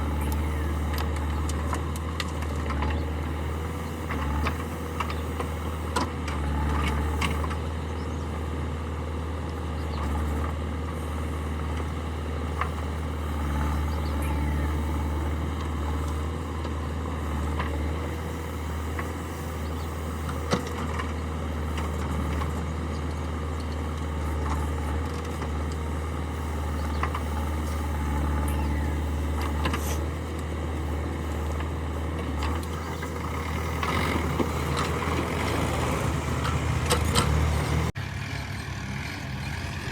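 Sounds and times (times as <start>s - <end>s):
diesel machinery droning: 0.0s - 39.9s.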